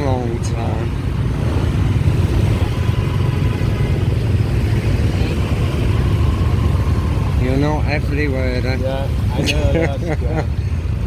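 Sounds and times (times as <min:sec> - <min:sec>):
motorbike engine and road rumble: 0:00.0 - 0:11.0.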